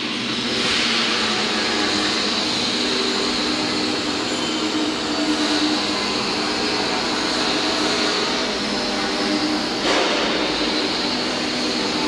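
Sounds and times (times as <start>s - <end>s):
concrete mixer running: 0.0s - 12.0s.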